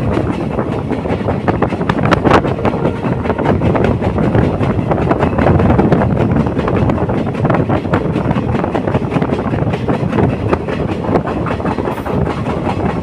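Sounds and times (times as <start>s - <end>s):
train wheels rumbling on track: 0.0s - 13.0s
wind buffeting microphone: 0.0s - 13.0s.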